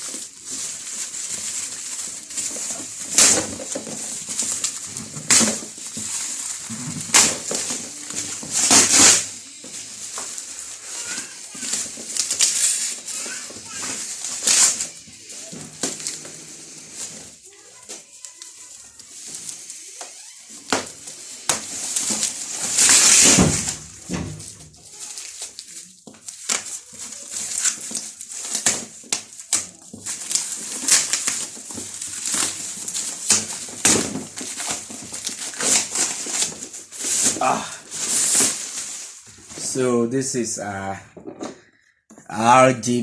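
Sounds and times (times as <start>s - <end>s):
cardboard scraping: 0.0s - 25.7s, 26.3s - 39.7s
plastic wrap crinkling: 0.0s - 39.8s.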